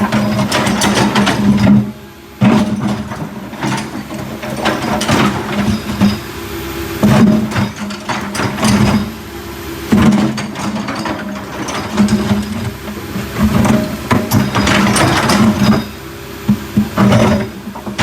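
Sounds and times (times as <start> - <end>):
backhoe engine running: 0.0 - 18.0.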